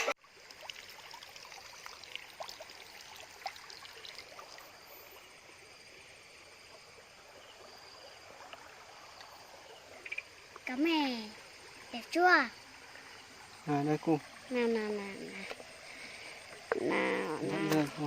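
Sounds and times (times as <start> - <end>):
trickling water: 0.0 - 18.0.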